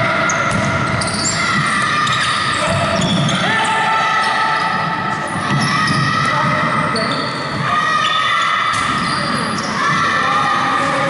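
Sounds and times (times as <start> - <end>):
players' voices in hall: 0.0 - 11.0.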